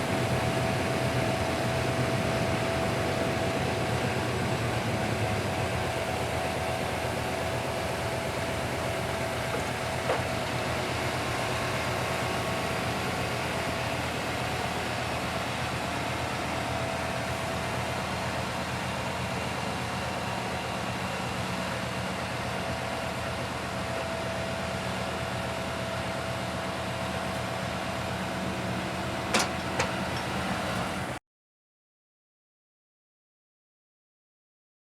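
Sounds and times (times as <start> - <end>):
diesel engine running: 0.0 - 31.2.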